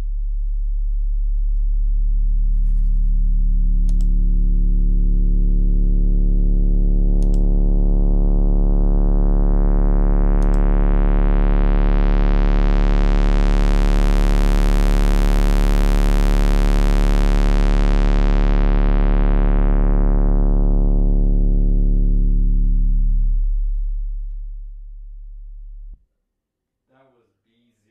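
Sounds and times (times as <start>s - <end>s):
synthesizer deep bass note: 0.0s - 26.0s.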